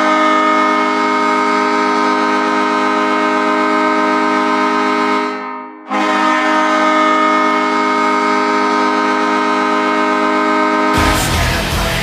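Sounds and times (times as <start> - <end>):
hockey goal horn blast: 0.0 - 12.0.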